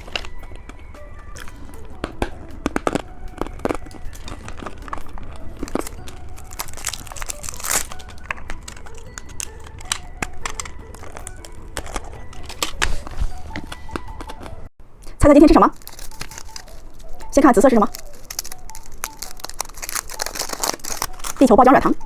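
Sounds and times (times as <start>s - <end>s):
candy wrappers crinkling: 0.0s - 22.0s.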